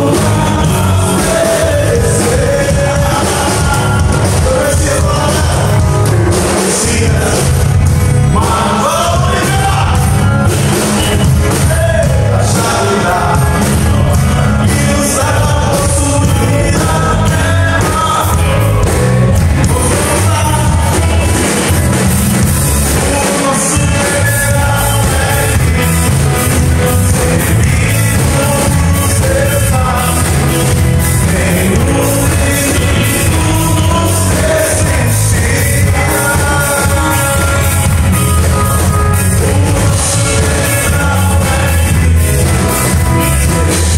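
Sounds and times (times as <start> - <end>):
person singing: 0.0 - 43.9
rock band playing: 0.0 - 43.9.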